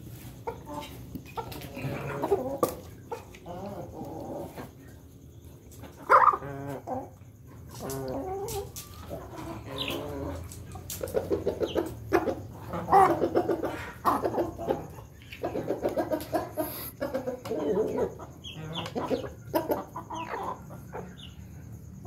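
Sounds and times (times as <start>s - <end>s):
chickens stuttering calls: 0.1s - 21.6s.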